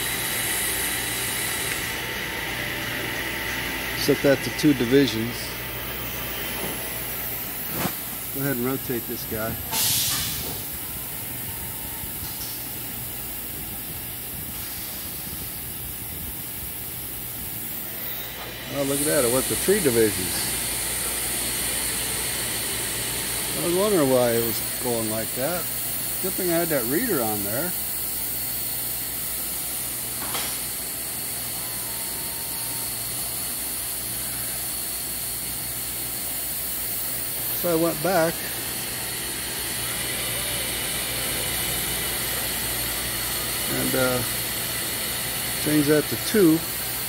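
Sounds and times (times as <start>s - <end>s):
machine hiss with low hum: 0.0s - 47.0s.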